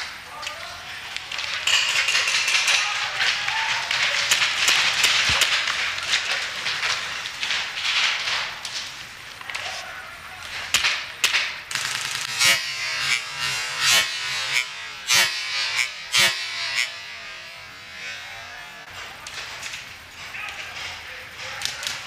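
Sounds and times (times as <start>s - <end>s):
steady noisy hiss: 0.0s - 22.0s.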